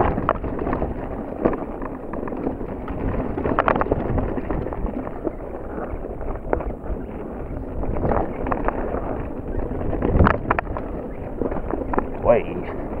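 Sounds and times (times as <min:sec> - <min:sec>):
bike rattling: 0:00.0 - 0:13.0
wind noise on microphone: 0:00.0 - 0:13.0.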